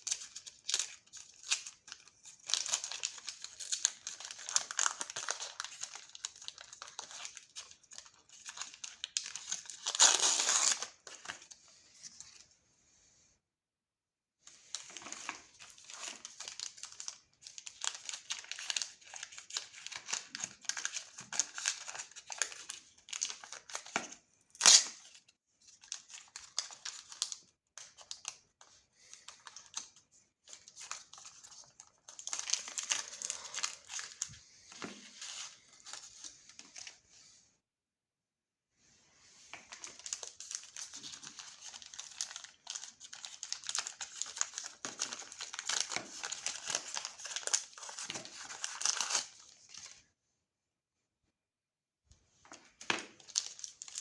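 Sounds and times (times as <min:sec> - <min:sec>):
plastic wrappers crinkling and tearing: 0:00.0 - 0:11.5, 0:14.6 - 0:24.0, 0:24.6 - 0:25.2, 0:25.8 - 0:36.9, 0:39.5 - 0:50.0, 0:52.9 - 0:54.0.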